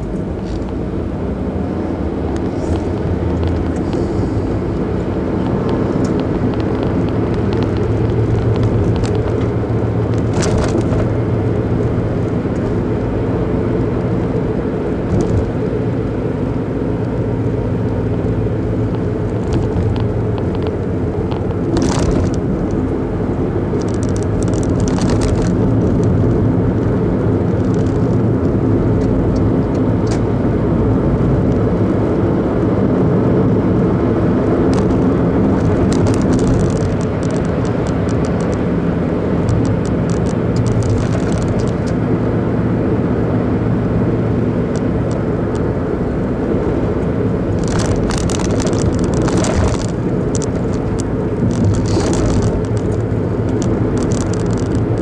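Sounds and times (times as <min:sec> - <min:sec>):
car engine running: 0:00.0 - 0:55.0
tyre road noise: 0:00.0 - 0:55.0.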